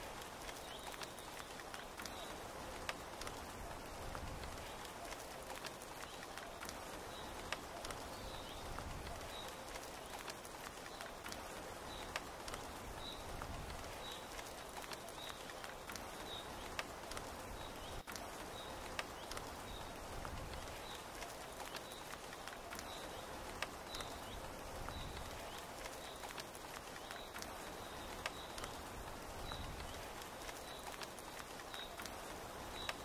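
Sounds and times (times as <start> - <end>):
steady rain falling: 0.0 - 33.0
sharp drip ticks: 0.2 - 33.0.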